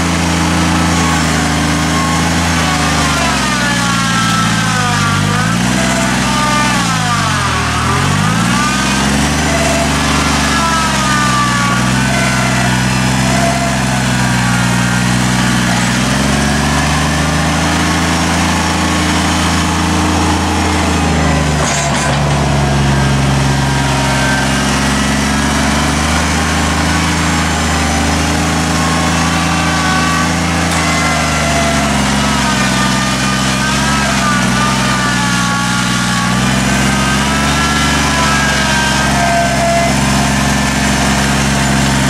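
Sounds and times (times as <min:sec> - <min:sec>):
tractor diesel engine straining: 0:00.0 - 0:42.0.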